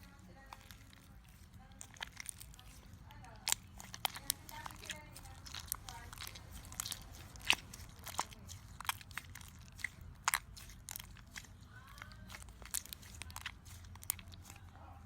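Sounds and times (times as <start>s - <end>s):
slime popping and crackling: 0.0s - 15.0s.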